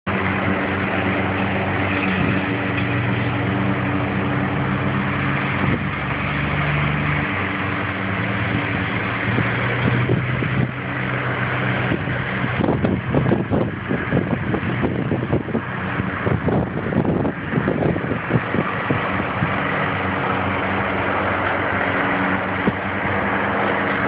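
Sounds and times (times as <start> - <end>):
diesel truck engine droning: 0.0 - 24.0
wind noise on microphone: 0.1 - 24.0.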